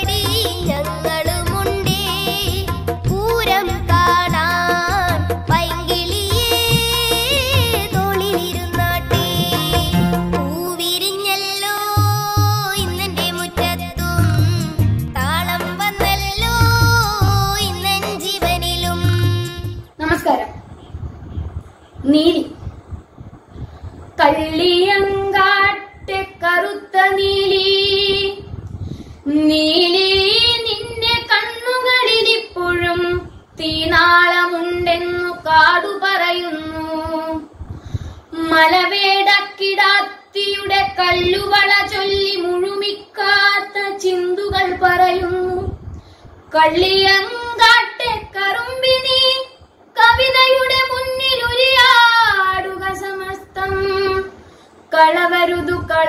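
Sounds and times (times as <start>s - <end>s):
boy singing unaccompanied: 0.0s - 20.5s, 24.2s - 28.6s, 29.2s - 37.6s, 38.2s - 56.0s.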